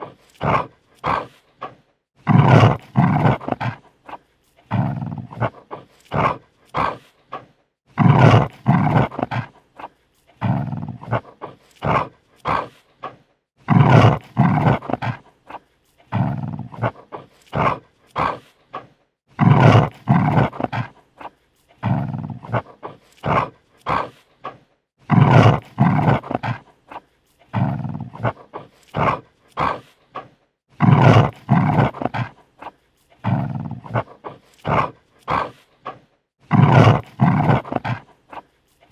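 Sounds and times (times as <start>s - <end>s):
dog snarling and growling: 0.0s - 38.9s.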